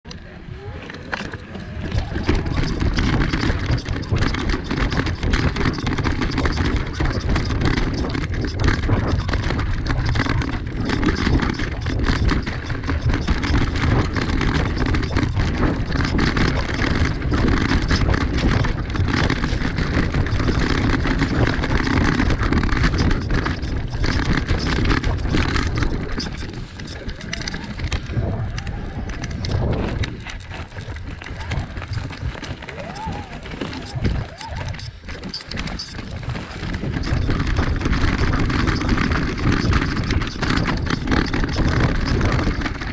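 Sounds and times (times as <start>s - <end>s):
bike tyre rumble: 0.0s - 42.9s
bike rattling over stones: 0.1s - 42.9s.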